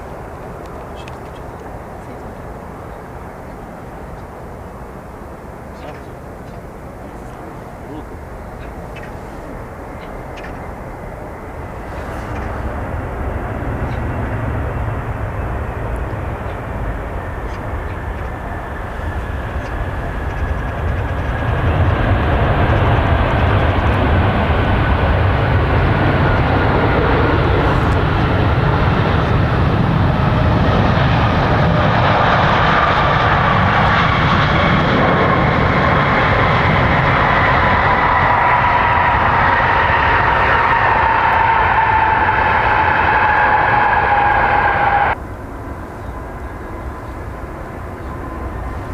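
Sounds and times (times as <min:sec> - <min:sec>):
jet engines roaring: 0:00.0 - 0:48.9
jet engine whine sliding down: 0:07.2 - 0:48.9.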